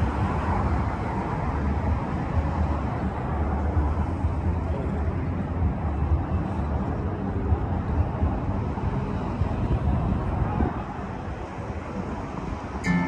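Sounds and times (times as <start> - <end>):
wind buffeting microphone: 0.0 - 12.9
traffic rumble: 0.0 - 13.0.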